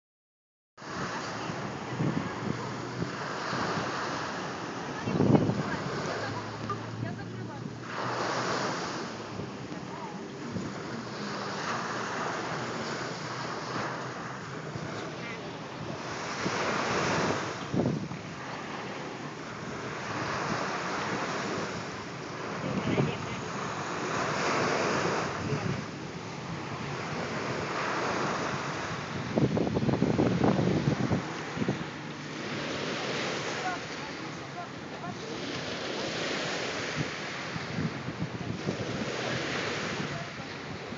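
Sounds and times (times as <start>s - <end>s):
small waves breaking on beach: 0.8s - 40.9s
wind buffeting microphone: 0.8s - 40.9s.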